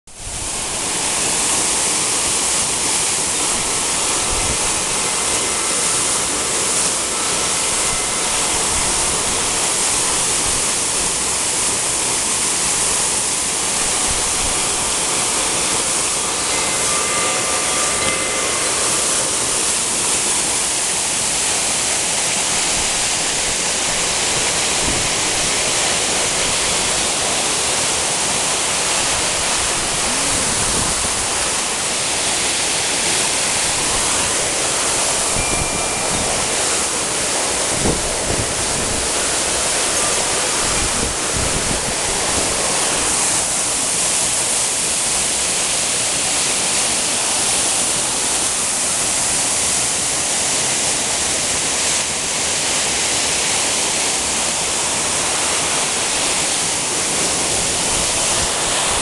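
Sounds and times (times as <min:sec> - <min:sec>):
waterfall rushing into pool: 0:00.1 - 0:59.0.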